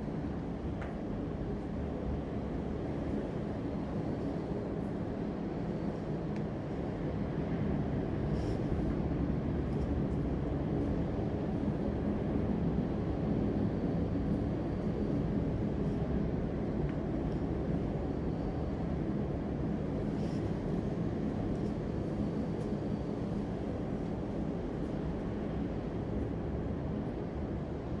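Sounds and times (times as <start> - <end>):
low rumbling background noise: 0.0 - 28.0.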